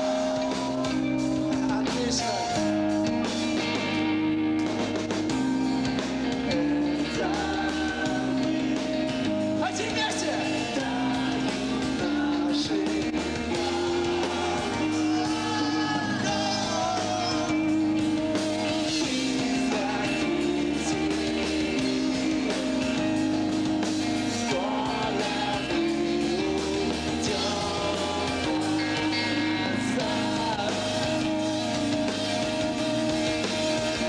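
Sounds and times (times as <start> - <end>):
person singing: 0.0 - 3.6, 6.1 - 34.0
live rock band playing: 0.0 - 34.0.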